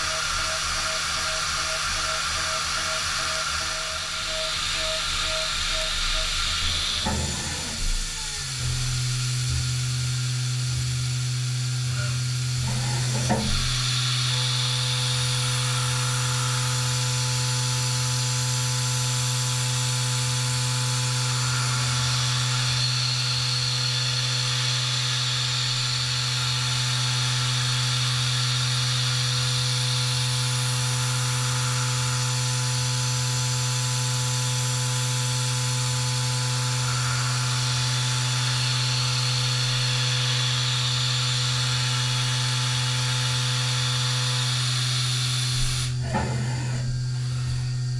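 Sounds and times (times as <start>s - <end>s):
milling machine cutting hum: 0.0s - 47.9s.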